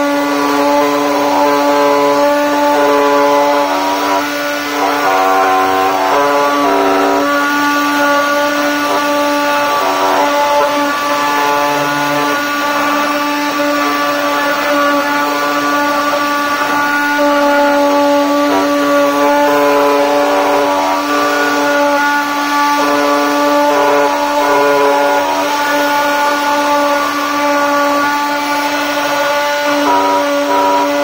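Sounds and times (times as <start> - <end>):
bit cutting wood: 0.0 - 31.0
router spindle whining: 0.0 - 31.0
stepper motor tones: 0.0 - 31.0.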